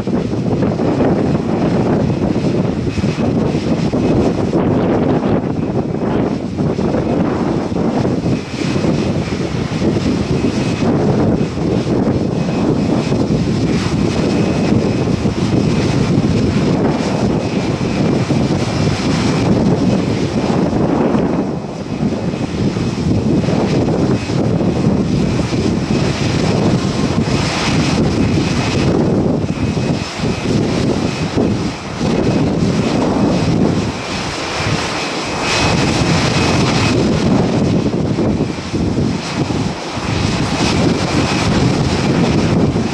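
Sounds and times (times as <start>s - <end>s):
jet engines whining: 0.0s - 42.9s
wind buffeting microphone: 0.0s - 42.9s.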